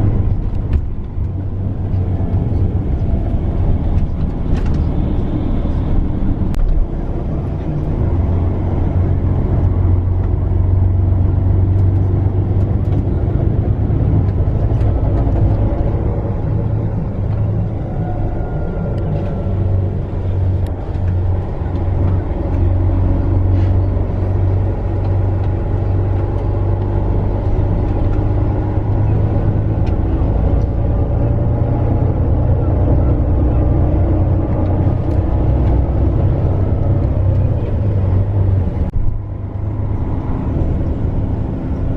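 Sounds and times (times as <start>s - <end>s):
bus engine drone: 0.0s - 41.9s
road and tyre noise: 0.0s - 41.9s.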